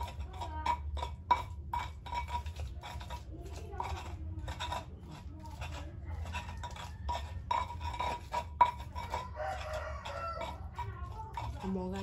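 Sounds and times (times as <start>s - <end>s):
pestle grinding in mortar: 0.0s - 12.0s.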